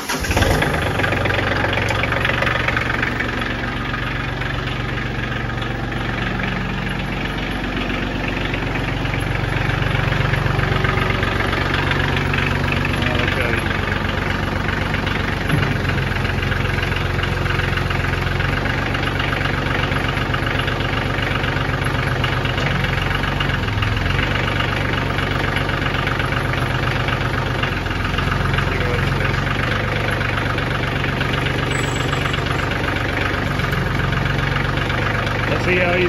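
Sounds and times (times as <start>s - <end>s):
tractor diesel engine idling: 0.0s - 36.0s.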